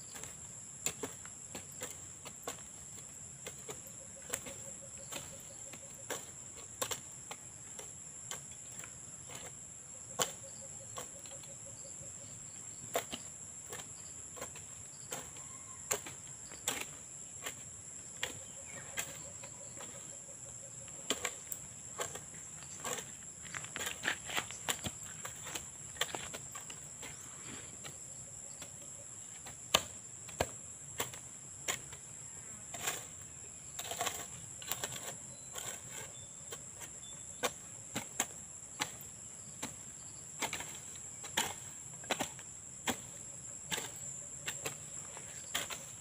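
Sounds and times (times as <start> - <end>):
insects droning: 0.0 - 46.0
hoe chopping into soil: 0.1 - 11.4, 12.3 - 46.0.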